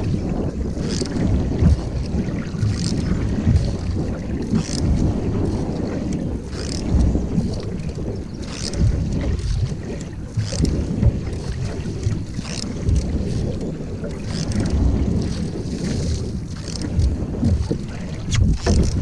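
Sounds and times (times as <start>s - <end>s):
paddle strokes splashing in water: 0.0s - 19.0s
wind rumble on microphone: 0.0s - 19.0s.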